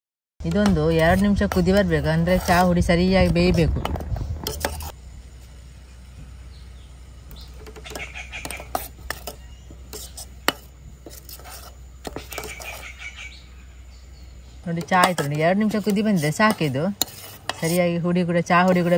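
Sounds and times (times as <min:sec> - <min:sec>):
low hum: 0:00.4 - 0:18.9.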